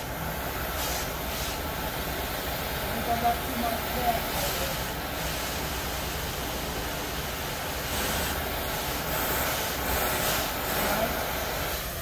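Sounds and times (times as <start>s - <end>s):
cutting torch hissing: 0.0s - 12.0s.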